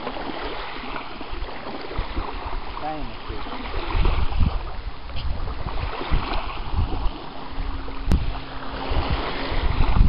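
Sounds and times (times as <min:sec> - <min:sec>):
wind buffeting microphone: 0:00.0 - 0:10.0
faint steady hum: 0:00.1 - 0:10.0.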